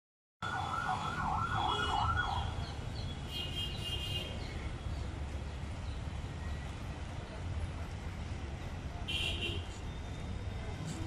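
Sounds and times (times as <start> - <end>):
low traffic rumble: 0.4 - 11.0.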